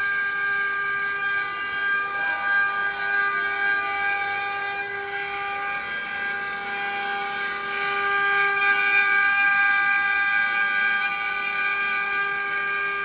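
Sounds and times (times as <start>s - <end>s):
router bits carving wood: 0.0s - 13.0s
spindle motors whining: 0.0s - 13.0s.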